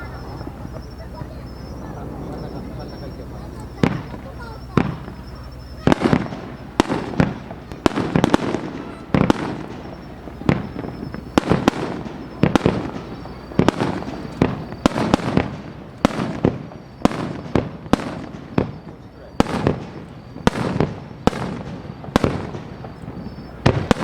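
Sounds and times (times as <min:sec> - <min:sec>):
fireworks bangs with echo: 0:00.0 - 0:24.0
rumble of fireworks shells: 0:00.3 - 0:24.0.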